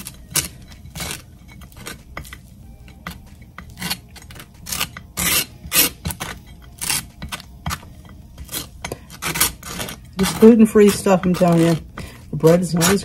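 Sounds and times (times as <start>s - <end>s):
knife scraping dry toast: 0.0s - 13.0s.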